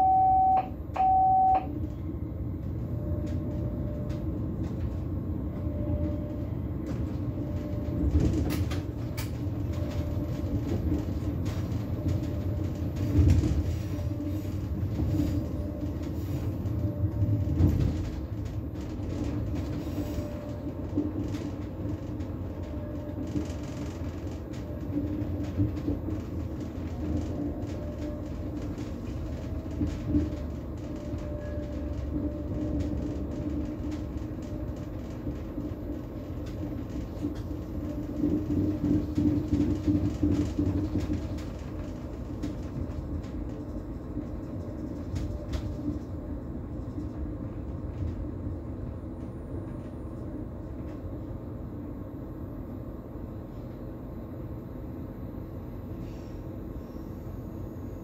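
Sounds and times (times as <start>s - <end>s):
train hum: 0.0s - 58.0s
train wheels rumbling on rail: 0.0s - 58.0s.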